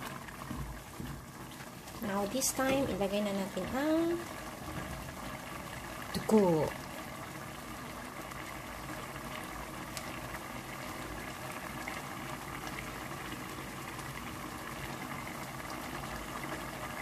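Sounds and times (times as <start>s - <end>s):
pot boiling: 0.0s - 17.0s.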